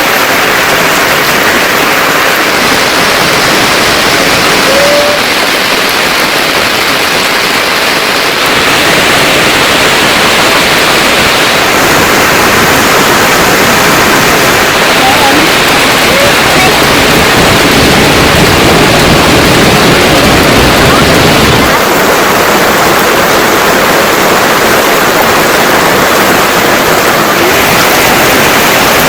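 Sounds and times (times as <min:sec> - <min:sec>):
heavy rain: 0:00.0 - 0:29.0.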